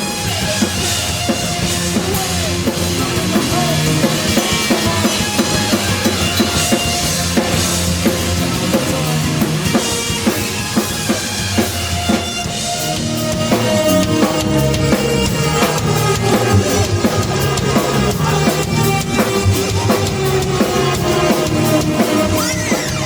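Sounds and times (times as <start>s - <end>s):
bass guitar notes: 0.0s - 23.0s
drum kit playing: 0.0s - 23.0s.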